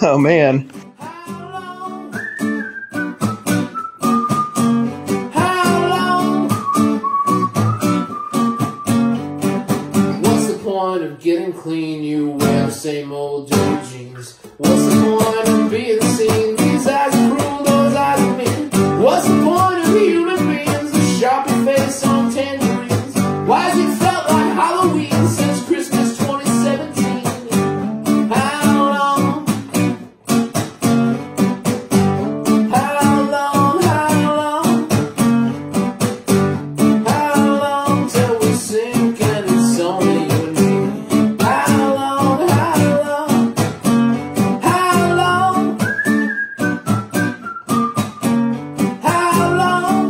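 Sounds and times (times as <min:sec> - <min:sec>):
song with acoustic guitar: 0:00.0 - 0:50.0.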